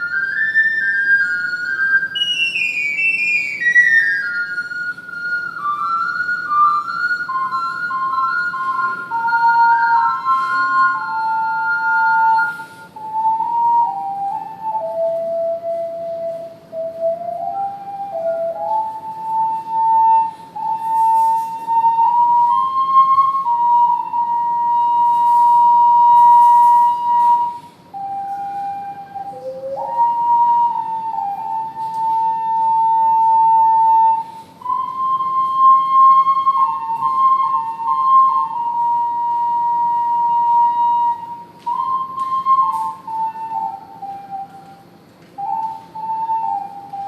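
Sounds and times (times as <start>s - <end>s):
ocarina playing slow melody: 0.0s - 47.0s.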